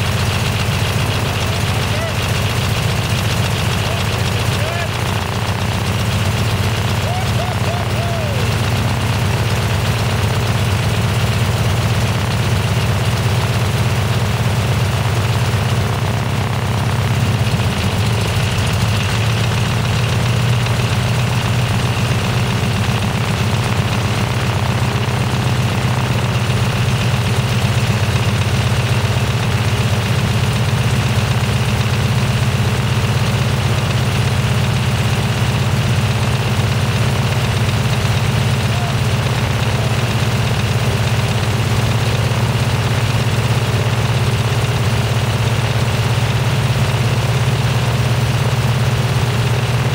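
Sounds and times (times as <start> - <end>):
radial aircraft engine running: 0.0 - 49.9.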